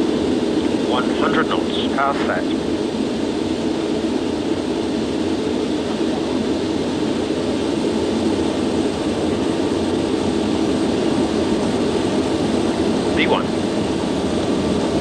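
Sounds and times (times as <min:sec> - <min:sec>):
jet engines deep roar: 0:00.0 - 0:15.0
rolling and airflow noise: 0:00.0 - 0:15.0.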